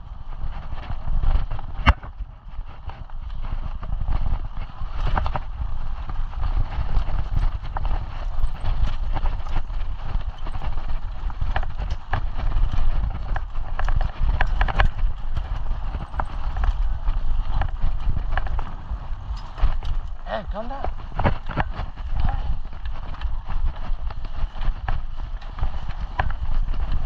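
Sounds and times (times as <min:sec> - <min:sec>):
mountain bike rattling over dirt: 0:00.0 - 0:27.0
wind rumble on microphone: 0:00.0 - 0:27.0.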